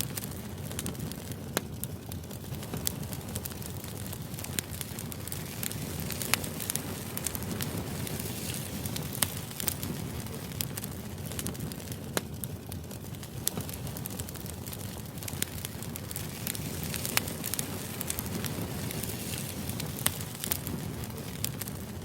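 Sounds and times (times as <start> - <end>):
sharp crackles and clicks: 0.0 - 22.0.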